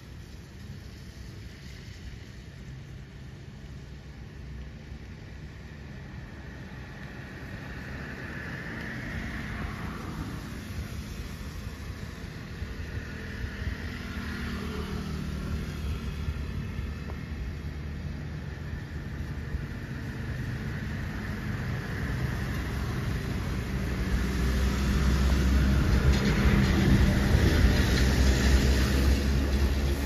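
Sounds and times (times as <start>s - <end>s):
motor vehicle engine rumble: 0.5s - 30.0s.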